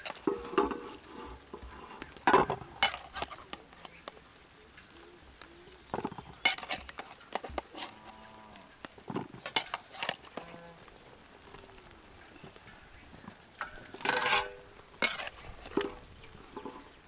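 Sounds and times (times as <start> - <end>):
metal pot and utensils clinking: 0.0 - 17.0.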